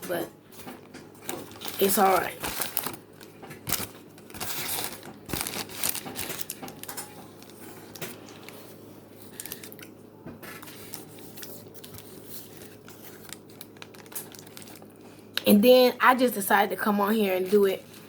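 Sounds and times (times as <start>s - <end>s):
takeout wrappers crinkling: 0.7s - 15.4s.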